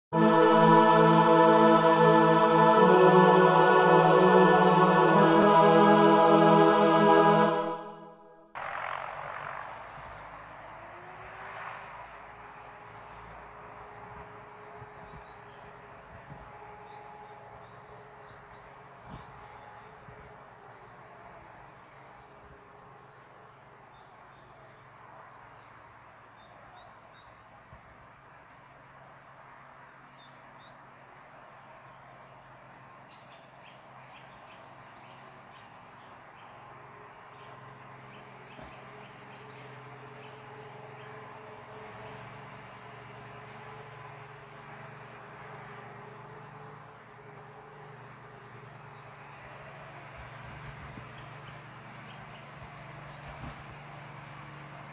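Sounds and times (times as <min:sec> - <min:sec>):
faint outdoor background hum: 0:00.0 - 0:54.9.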